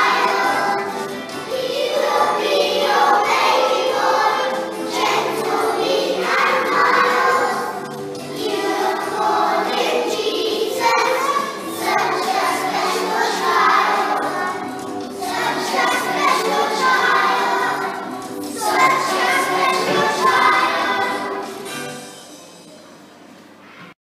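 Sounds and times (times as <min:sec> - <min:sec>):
children's choir singing: 0:00.0 - 0:22.2.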